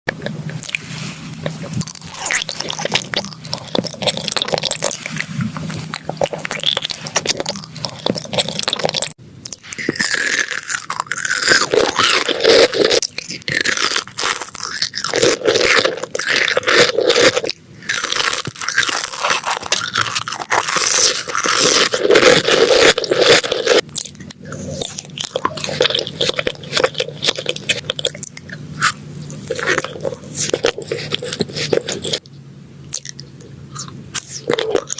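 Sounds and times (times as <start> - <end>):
crunching of crisp food: 0.1 - 32.3, 32.9 - 34.9.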